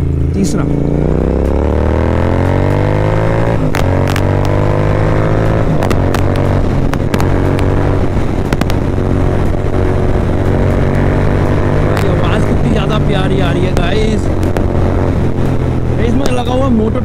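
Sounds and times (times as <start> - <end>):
exhaust cracks: 0.0 - 17.0
motorcycle engine downshifting: 0.0 - 17.0.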